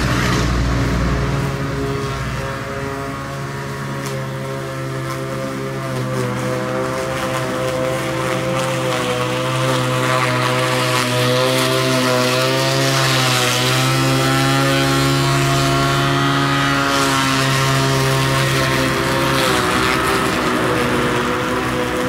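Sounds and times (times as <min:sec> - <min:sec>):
electric lawn mower whining: 0:00.0 - 0:22.0.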